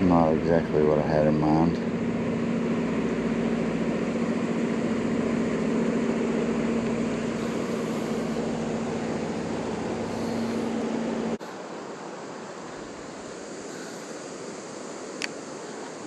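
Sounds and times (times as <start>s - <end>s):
constant hiss: 0.0s - 16.0s
engine-like hum: 0.0s - 16.0s.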